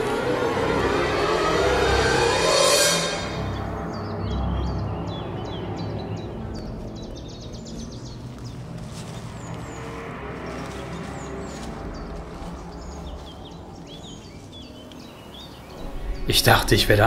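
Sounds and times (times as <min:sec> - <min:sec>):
small birds chirping: 0:03.2 - 0:17.0.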